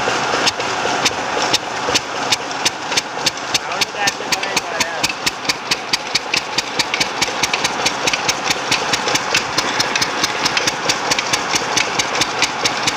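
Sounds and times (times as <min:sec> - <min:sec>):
stationary diesel engine knocking: 0:00.0 - 0:12.9.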